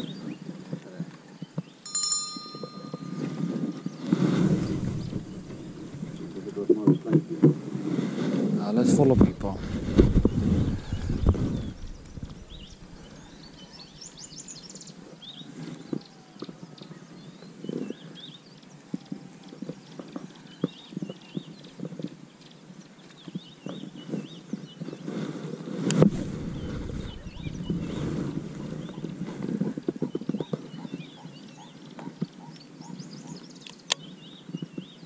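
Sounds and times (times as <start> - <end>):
birds chirping: 1.4 - 7.4, 8.8 - 25.0, 26.1 - 35.0.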